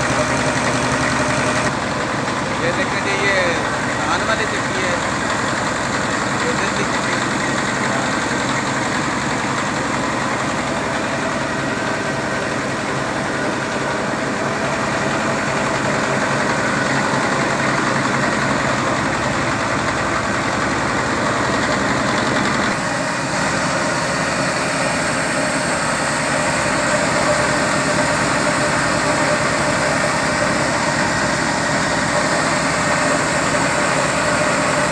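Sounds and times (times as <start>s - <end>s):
grinding mill machinery drone: 0.0s - 34.9s.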